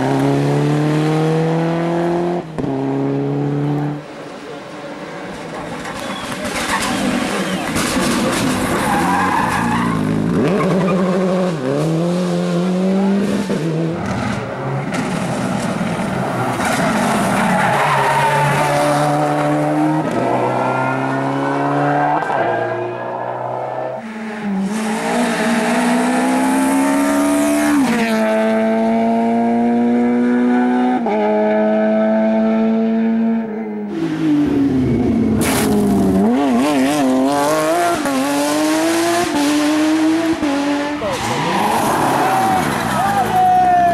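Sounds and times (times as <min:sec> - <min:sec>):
rally car engine revving: 0:00.0 - 0:43.5
tyres skidding: 0:00.1 - 0:28.3, 0:33.9 - 0:43.9.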